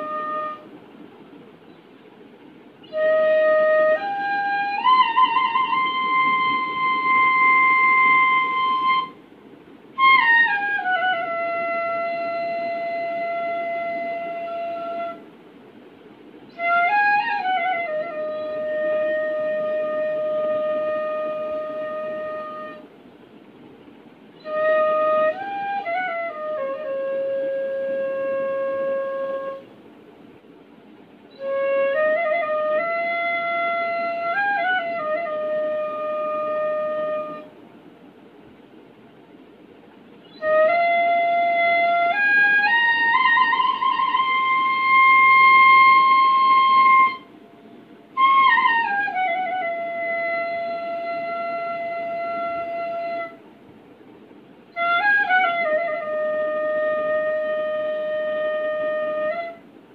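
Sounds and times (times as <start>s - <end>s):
bamboo flute solo: 0.0s - 0.9s, 2.8s - 9.2s, 9.9s - 15.3s, 16.4s - 22.9s, 24.3s - 29.7s, 31.3s - 37.6s, 40.2s - 47.4s, 48.1s - 53.5s, 54.7s - 59.9s.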